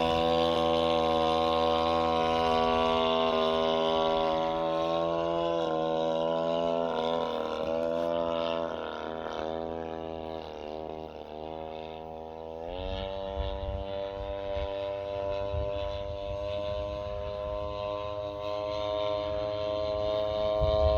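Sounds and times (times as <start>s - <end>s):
model plane engine droning: 0.0s - 20.9s.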